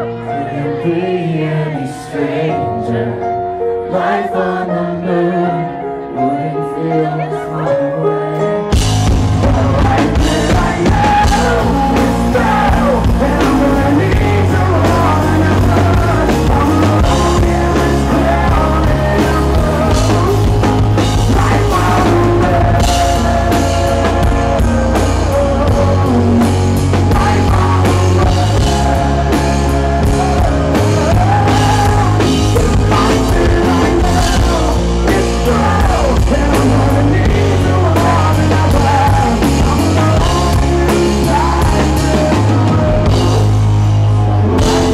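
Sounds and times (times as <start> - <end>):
man singing: 0.0 - 44.9
electric guitar: 4.8 - 44.9
drums: 8.6 - 44.9.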